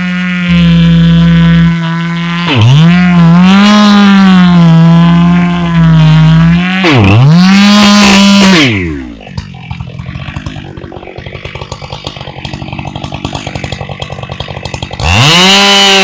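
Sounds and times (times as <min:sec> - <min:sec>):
chainsaw cutting at full throttle: 0:00.0 - 0:16.0.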